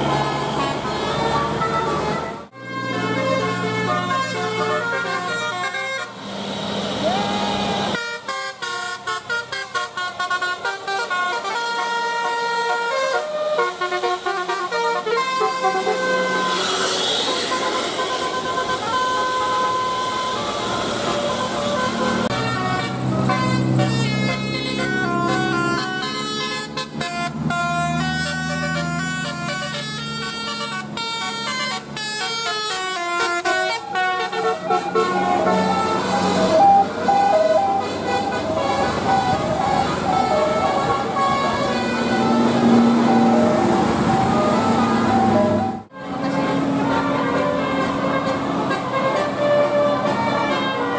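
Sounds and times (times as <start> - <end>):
traffic noise: 0.0 - 50.9
musical air horn playing a tune: 0.1 - 6.3, 7.9 - 50.9.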